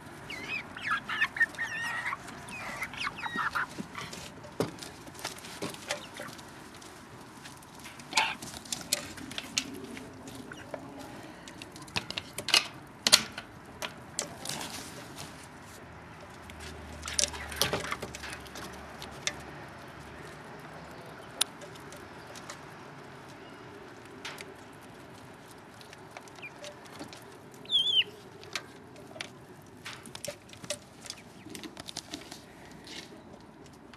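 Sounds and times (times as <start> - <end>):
chickens pecking at feed dish: 0.0 - 33.9.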